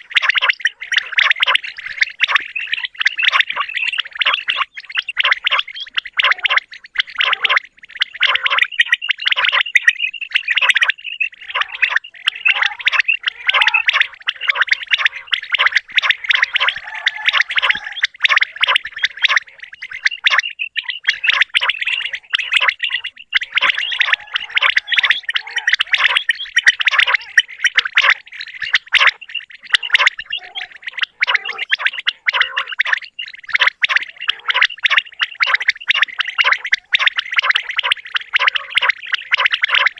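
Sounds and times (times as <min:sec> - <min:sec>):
quails calling: 0:00.0 - 0:39.9.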